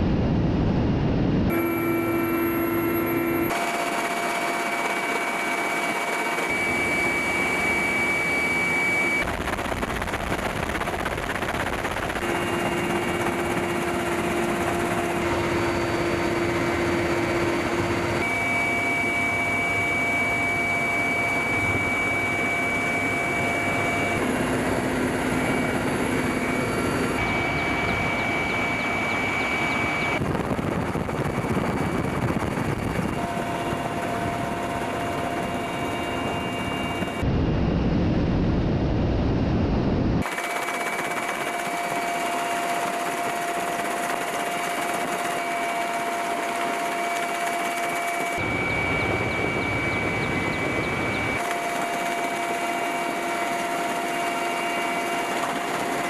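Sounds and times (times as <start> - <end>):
helicopter turbine engines and rotors: 0.0 - 56.0
high steady turbine whine: 0.0 - 56.0.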